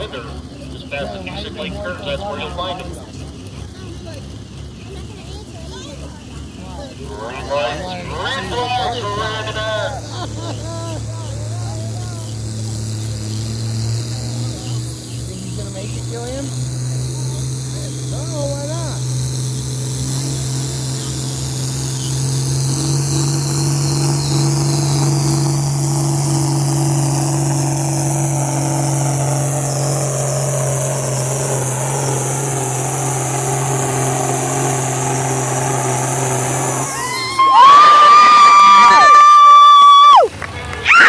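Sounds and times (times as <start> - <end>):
tractor engine running hard: 0.0 - 41.0.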